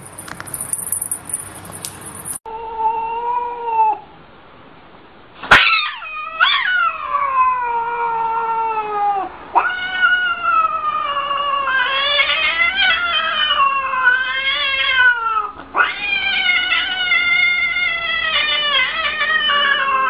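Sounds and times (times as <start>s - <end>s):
cat yowling: 2.5s - 4.1s, 5.5s - 20.0s.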